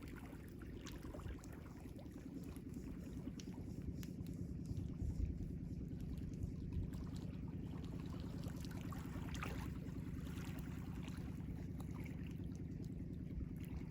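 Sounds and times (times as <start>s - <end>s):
water splashing and trickling: 0.0s - 13.9s.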